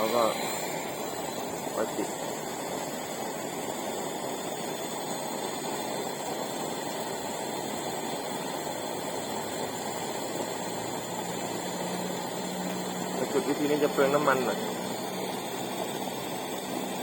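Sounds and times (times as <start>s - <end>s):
kerosene flame jet roaring: 0.0s - 17.0s.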